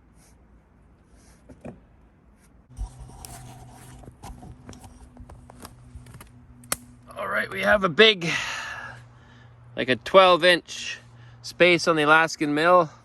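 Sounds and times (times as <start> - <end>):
low steady hum: 1.7 - 13.0.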